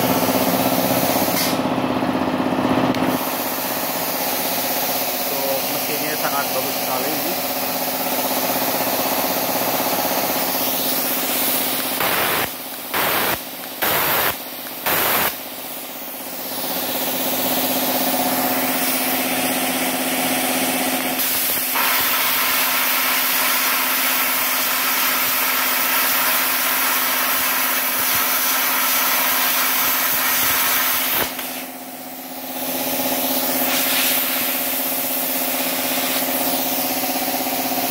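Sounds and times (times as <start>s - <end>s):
air compressor running: 0.0s - 37.9s
plasma torch hissing: 0.6s - 1.6s, 3.0s - 31.8s, 32.5s - 37.4s.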